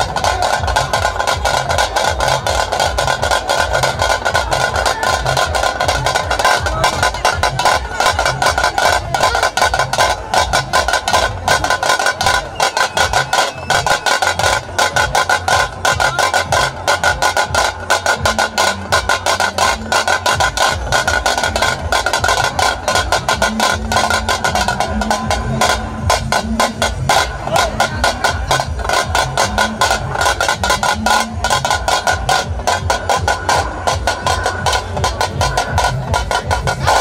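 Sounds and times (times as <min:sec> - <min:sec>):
fast drumming: 0:00.0 - 0:37.0.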